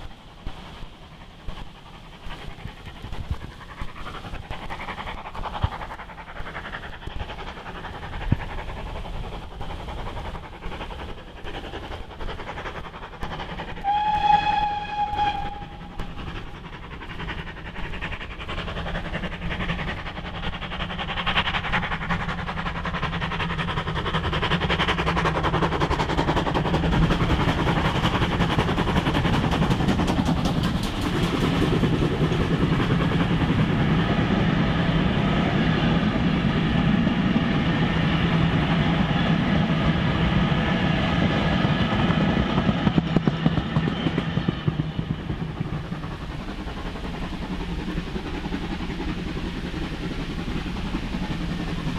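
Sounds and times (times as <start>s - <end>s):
steam train passing: 0.0s - 51.9s.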